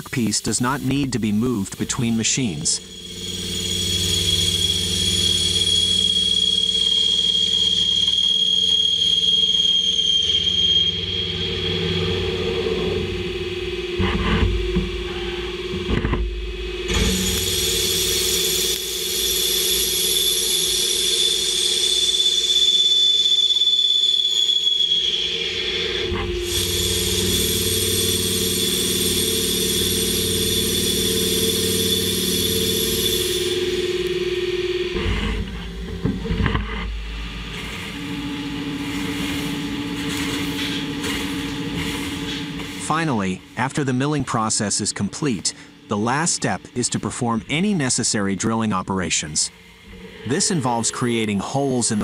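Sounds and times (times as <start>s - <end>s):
steady held tone: 0.0s - 52.0s
lathe machine hum with whine: 0.9s - 48.4s.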